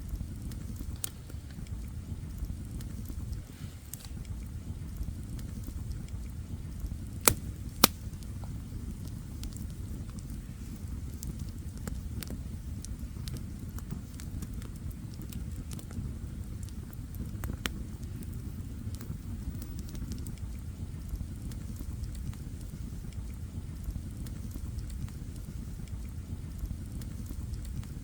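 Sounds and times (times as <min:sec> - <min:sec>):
burning wood crackling and popping: 0:00.0 - 0:28.0
campfire flames rumbling: 0:00.0 - 0:28.0.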